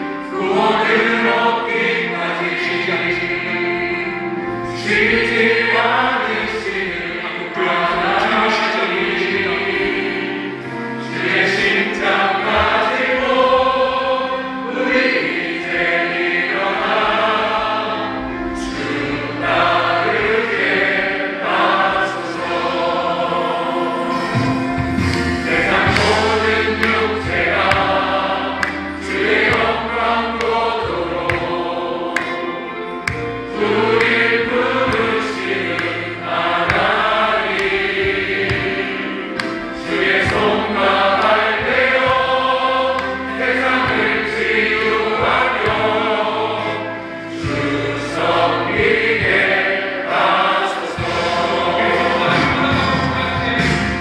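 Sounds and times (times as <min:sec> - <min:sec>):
accompaniment holding low notes: 0:00.0 - 0:54.0
congregation singing: 0:00.0 - 0:54.0
worship team singing: 0:00.0 - 0:54.0.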